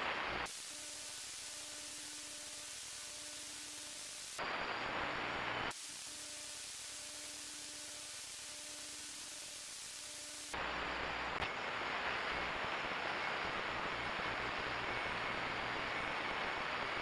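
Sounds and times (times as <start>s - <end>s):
static-like hiss: 0.0s - 17.0s.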